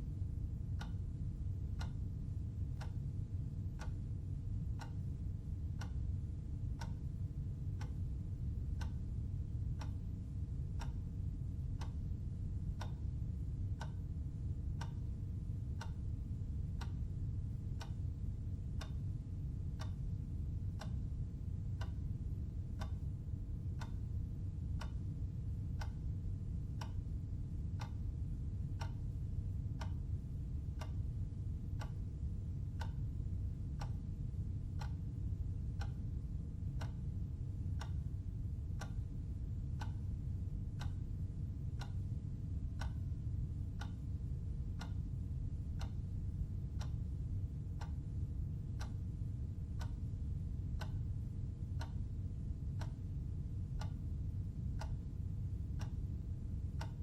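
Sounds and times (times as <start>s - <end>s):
clock ticking: 1.7s - 4.0s, 4.6s - 10.1s, 10.7s - 25.1s, 25.7s - 27.1s, 27.7s - 28.1s, 28.7s - 37.2s, 37.8s - 38.1s, 38.7s - 41.0s, 41.6s - 45.2s, 45.8s - 55.0s, 55.8s - 57.0s.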